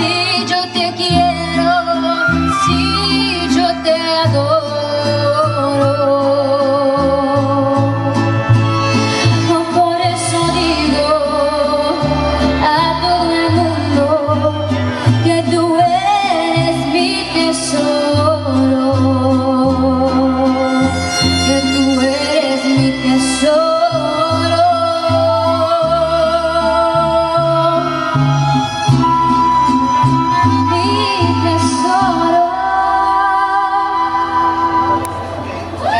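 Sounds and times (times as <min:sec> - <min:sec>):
low bass line: 0:00.0 - 0:35.9
mariachi band playing: 0:00.0 - 0:35.9.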